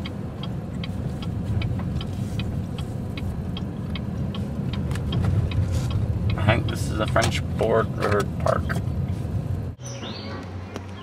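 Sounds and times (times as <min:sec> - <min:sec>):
turn signal clicking: 0:00.0 - 0:09.7
car road and engine rumble: 0:00.0 - 0:11.0.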